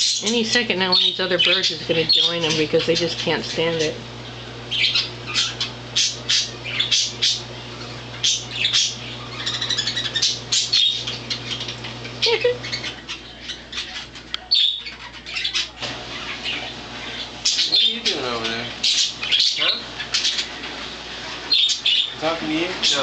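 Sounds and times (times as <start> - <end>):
budgerigars chirping: 0.0 - 4.0, 4.7 - 20.8, 21.5 - 23.0.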